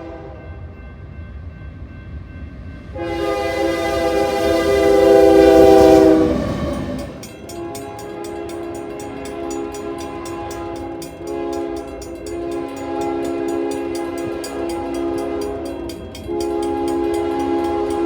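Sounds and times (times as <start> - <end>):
train wheels clickety-clack: 0.9 - 18.0
locomotive air horn chord: 2.9 - 18.0.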